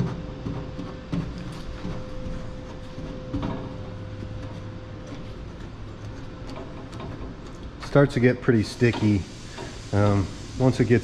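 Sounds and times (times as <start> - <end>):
workshop hum and rumble: 0.0 - 11.0.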